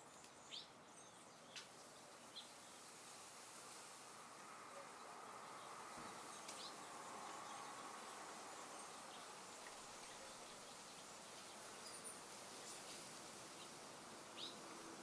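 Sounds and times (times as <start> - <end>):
soft hiss of air: 0.0 - 15.0.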